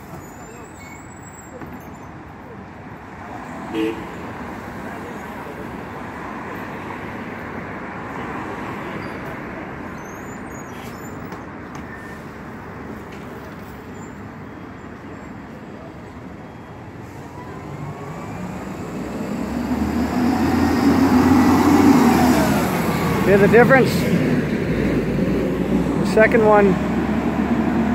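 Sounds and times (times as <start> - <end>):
bus engine pulling up: 0.0 - 3.4, 4.6 - 27.9
street traffic noise: 0.0 - 27.9.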